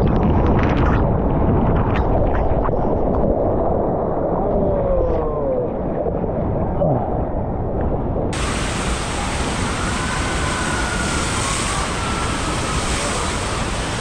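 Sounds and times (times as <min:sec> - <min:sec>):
muffled rushing water: 0:00.0 - 0:14.0.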